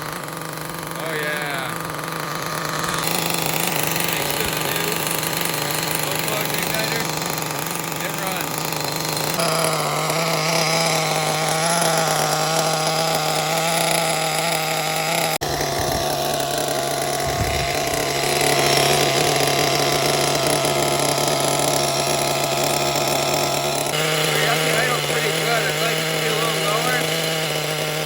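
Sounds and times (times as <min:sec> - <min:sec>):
drill whining turning engine: 0:00.0 - 0:28.0.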